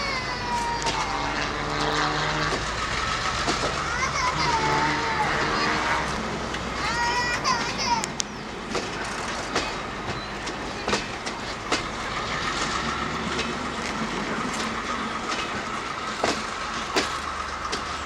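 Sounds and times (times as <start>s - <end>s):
train rumble: 0.0s - 18.0s
train wheels clicking over rail joints: 0.0s - 18.0s.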